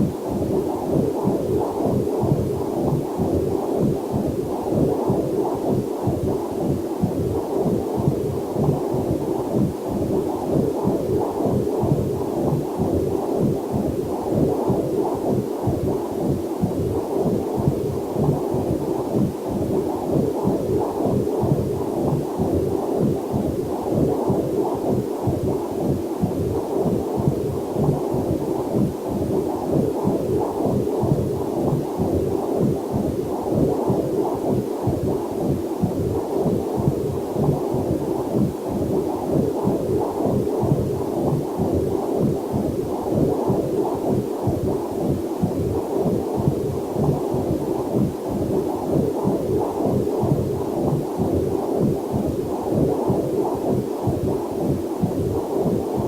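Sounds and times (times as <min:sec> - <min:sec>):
doppler monitor whooshing heartbeat: 0:00.0 - 0:56.0.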